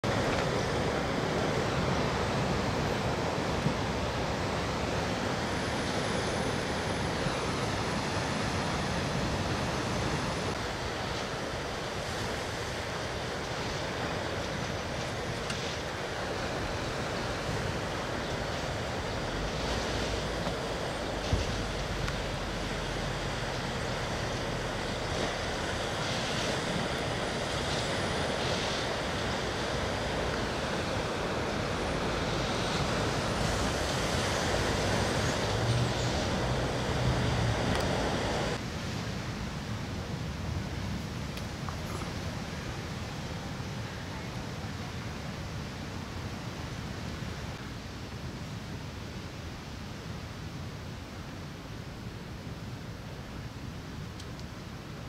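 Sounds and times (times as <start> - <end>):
rushing outdoor background noise: 0.0 - 55.0.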